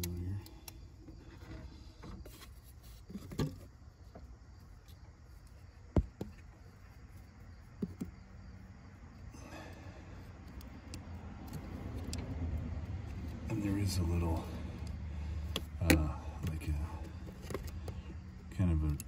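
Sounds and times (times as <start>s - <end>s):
low steady rumble: 3.7s - 19.0s.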